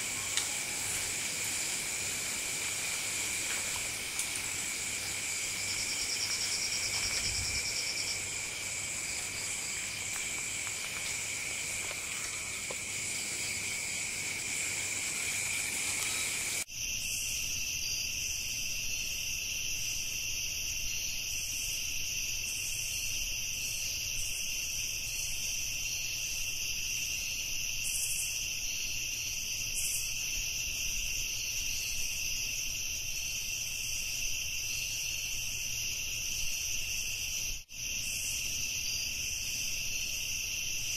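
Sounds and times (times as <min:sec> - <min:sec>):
night insects chorus: 0:00.0 - 0:40.9.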